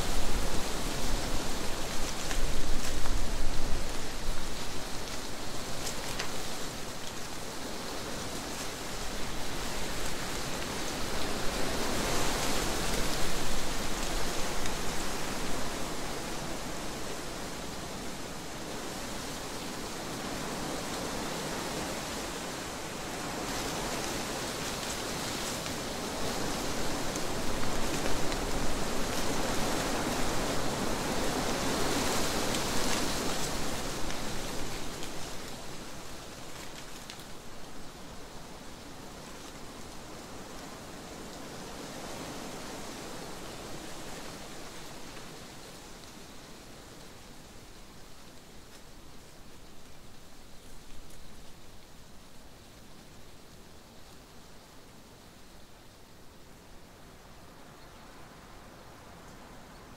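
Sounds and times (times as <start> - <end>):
wind blowing through trees: 0.0 - 59.9.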